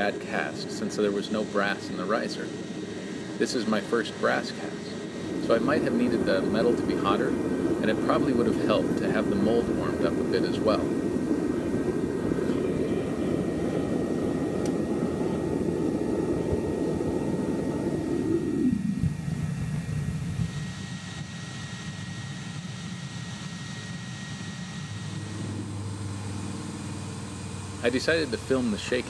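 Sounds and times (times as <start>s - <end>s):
furnace burner roaring: 0.0s - 29.0s
low hum: 0.0s - 29.0s.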